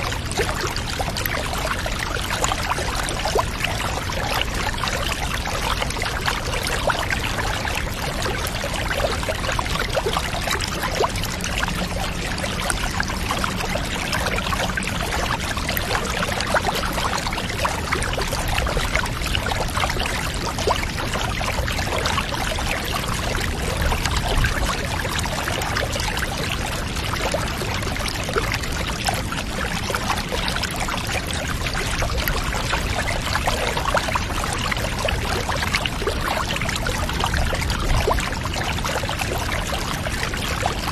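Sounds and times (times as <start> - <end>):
water pouring steadily: 0.0 - 40.9.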